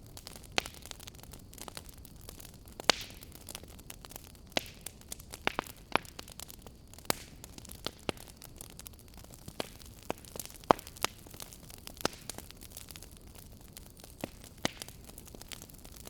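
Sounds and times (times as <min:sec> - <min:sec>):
firewood crackling and popping: 0:00.0 - 0:16.0
soft steady hiss: 0:00.0 - 0:16.0.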